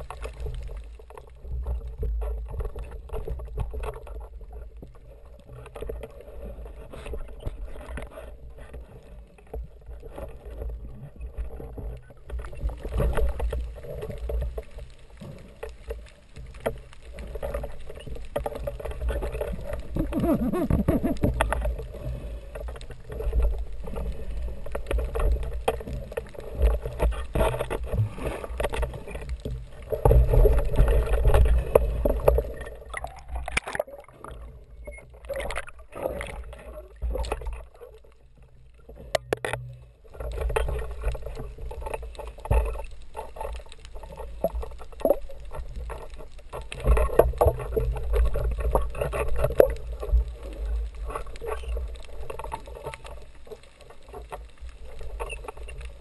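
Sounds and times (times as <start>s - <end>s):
water rushing underwater: 0.0s - 56.0s.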